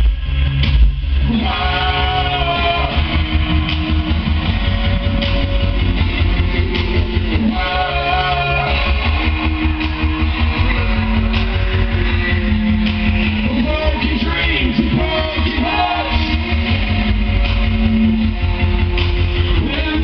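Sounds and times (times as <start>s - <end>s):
bass and drums: 0.0s - 20.0s.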